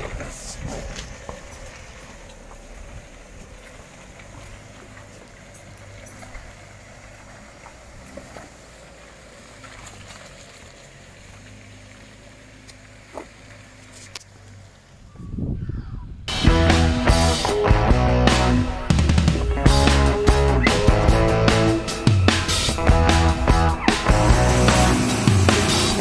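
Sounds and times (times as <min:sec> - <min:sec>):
vehicle engine at low revs: 0:00.0 - 0:15.4, 0:16.2 - 0:26.0.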